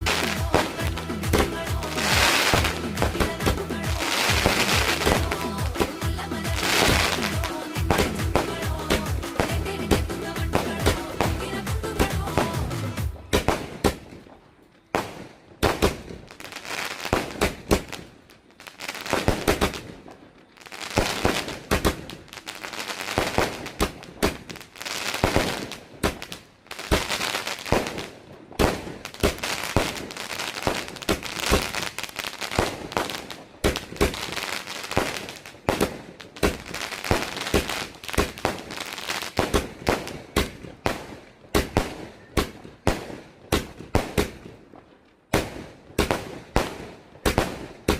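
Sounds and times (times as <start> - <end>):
firework bangs with crackling: 0.0 - 47.9.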